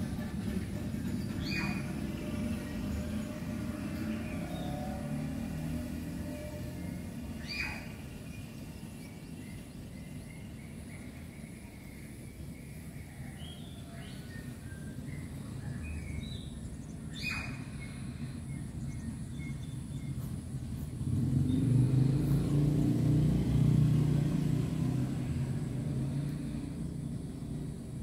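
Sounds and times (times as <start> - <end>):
vehicle engine passing: 0.0 - 11.0, 15.0 - 28.0
birds chirping: 0.0 - 28.0.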